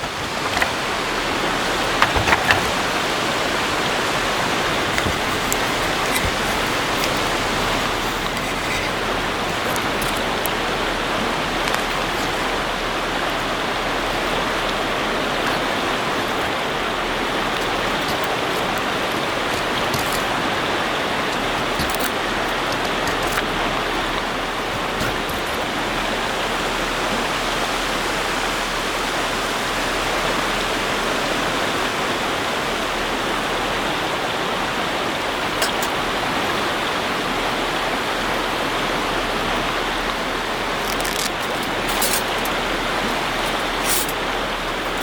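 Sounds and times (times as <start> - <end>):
river rushing: 0.0 - 45.0.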